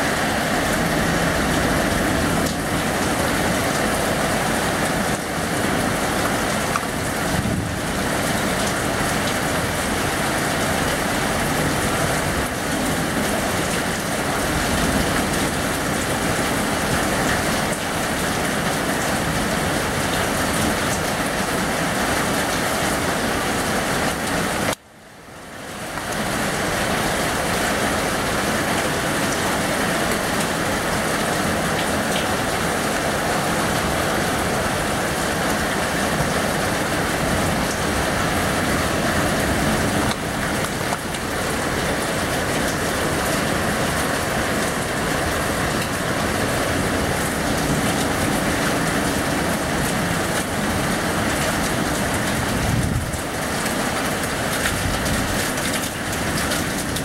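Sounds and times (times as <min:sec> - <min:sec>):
steady rain on pavement: 0:00.0 - 0:57.0.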